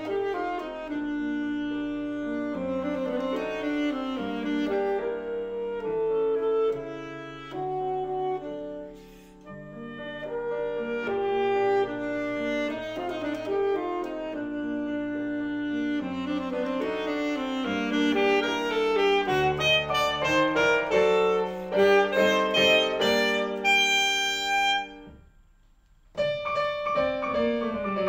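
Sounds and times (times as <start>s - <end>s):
alto saxophone melody: 0.0s - 28.0s.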